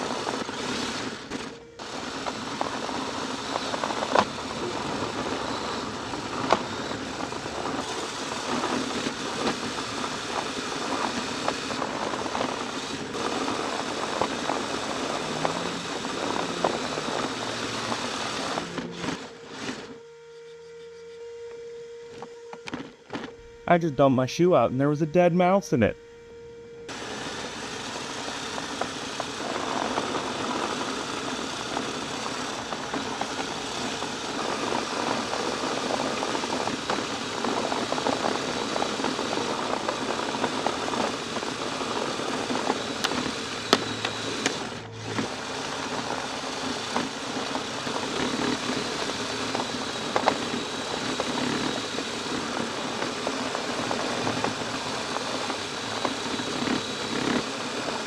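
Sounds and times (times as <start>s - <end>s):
toy electric motor and tracks: 0.0s - 23.4s, 26.9s - 58.0s.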